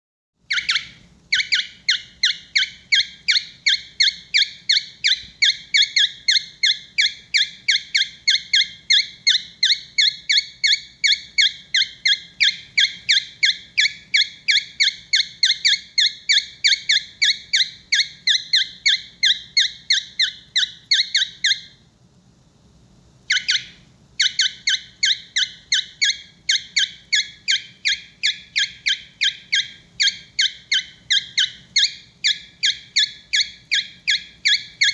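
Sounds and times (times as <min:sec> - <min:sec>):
bird high beeping calls: 0:00.5 - 0:21.8, 0:23.3 - 0:34.9.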